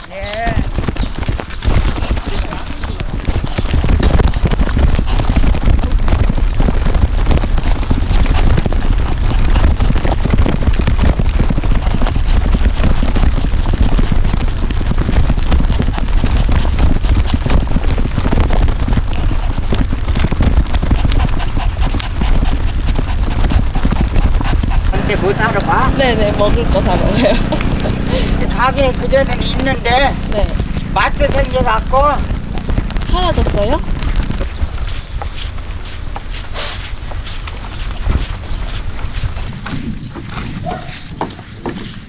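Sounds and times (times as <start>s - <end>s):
small wheels rattling on pavement: 0.0s - 42.0s.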